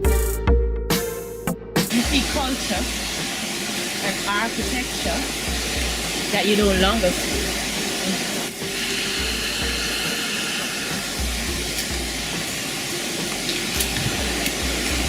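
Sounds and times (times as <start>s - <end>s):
waterfall rushing: 1.9s - 15.0s.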